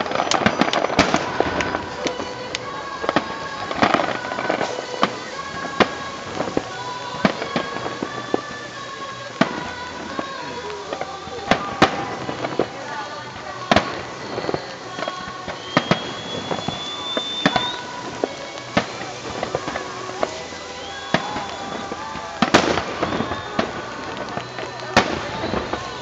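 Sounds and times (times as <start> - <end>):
firework shells bursting: 0.0 - 26.0
music with held tones: 0.0 - 26.0.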